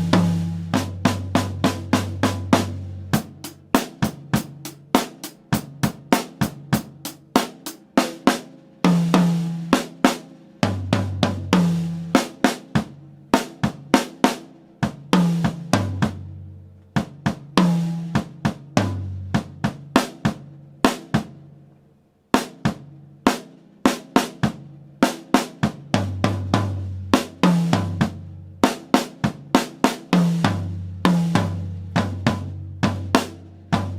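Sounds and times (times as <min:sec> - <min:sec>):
tom drum notes: 0:00.0 - 0:16.4, 0:22.4 - 0:33.9
drum kit playing: 0:00.0 - 0:21.5, 0:22.3 - 0:33.9.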